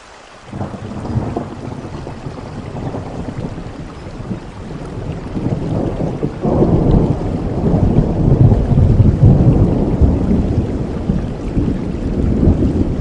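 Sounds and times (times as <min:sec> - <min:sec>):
steady rain: 0:00.0 - 0:13.0
thunder rumbling: 0:00.5 - 0:13.0.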